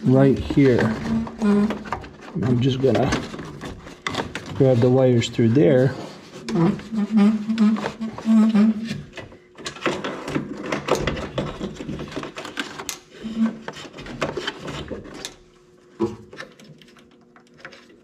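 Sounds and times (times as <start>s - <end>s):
wires and plastic parts rustling: 0.0s - 18.0s.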